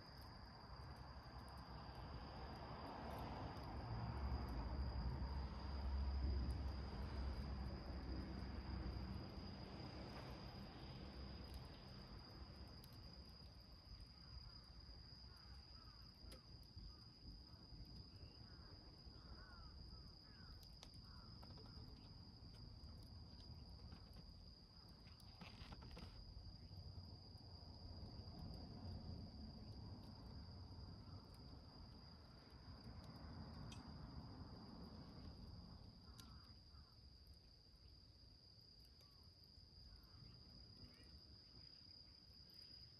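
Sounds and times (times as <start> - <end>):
high-pitched insect trill: 0.0 - 42.9.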